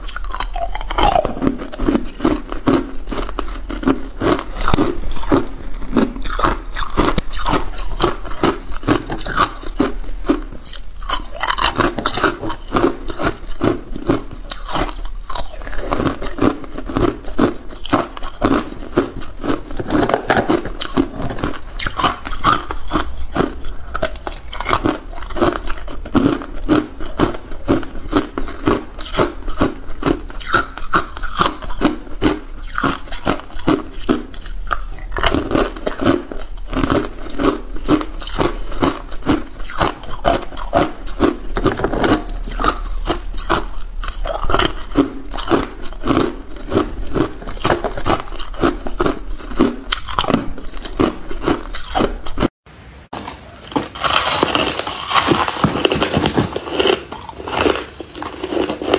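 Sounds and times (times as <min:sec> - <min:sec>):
ice being chewed: 0:00.0 - 0:52.5, 0:53.2 - 0:58.9.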